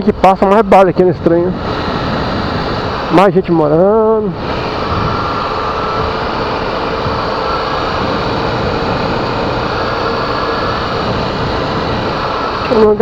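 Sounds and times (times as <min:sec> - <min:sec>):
wind and road noise: 0:00.0 - 0:13.0
motorcycle engine running: 0:01.4 - 0:13.0.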